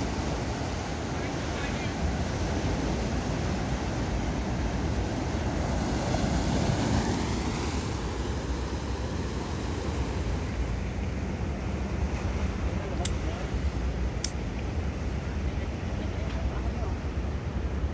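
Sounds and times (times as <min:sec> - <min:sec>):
small waves breaking on sand: 0:00.0 - 0:17.4.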